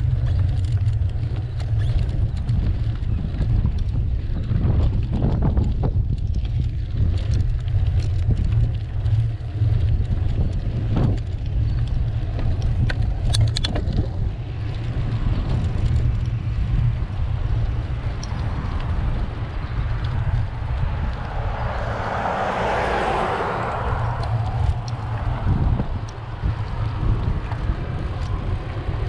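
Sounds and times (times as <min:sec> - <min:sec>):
bicycle tyre noise on road: 0:00.0 - 0:29.0
wind buffeting microphone: 0:00.0 - 0:29.0.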